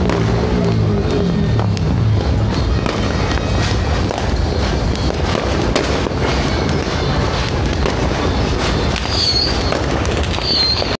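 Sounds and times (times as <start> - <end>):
fireworks crackling bangs: 0.0 - 11.0
high firework whistles: 0.0 - 11.0.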